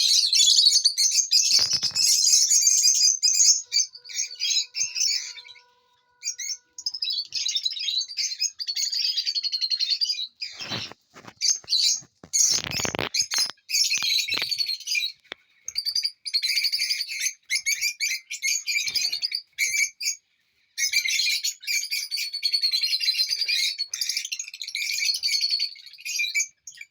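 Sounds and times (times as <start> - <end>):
lovebirds chirping: 0.0 - 26.9.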